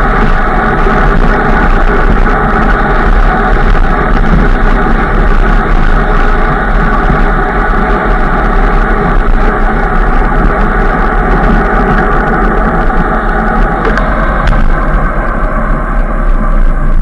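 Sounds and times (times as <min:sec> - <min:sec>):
faint steady hum: 0:00.0 - 0:17.0
road noise: 0:00.0 - 0:17.0
wind on microphone: 0:00.0 - 0:17.0.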